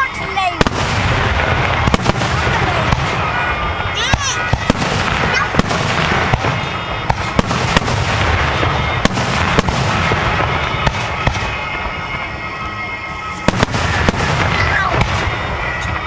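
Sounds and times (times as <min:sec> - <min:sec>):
fireworks bangs and pops: 0:00.0 - 0:16.0.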